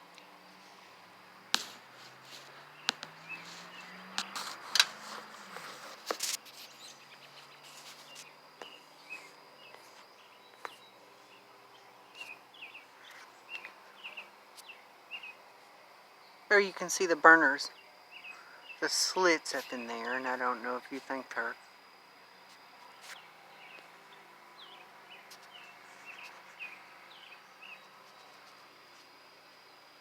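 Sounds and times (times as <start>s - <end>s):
faint low hum: 0.0s - 30.0s
small birds chirping: 0.1s - 15.5s, 16.2s - 30.0s.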